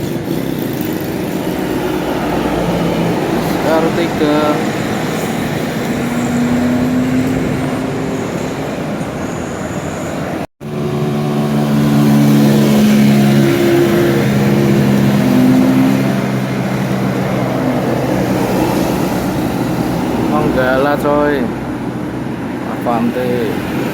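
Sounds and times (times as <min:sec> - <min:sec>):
bus passing: 0:00.0 - 0:23.9
pitched drone: 0:00.0 - 0:23.9.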